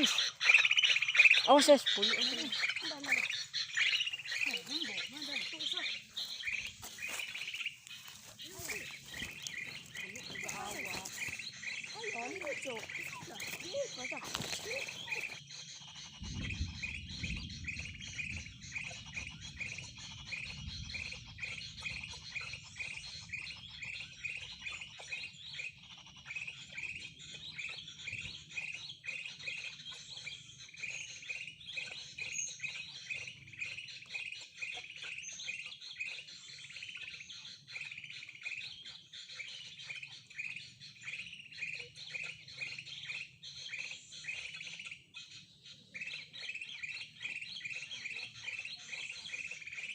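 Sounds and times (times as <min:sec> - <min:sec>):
bird chirping rapidly: 0:00.0 - 0:49.9.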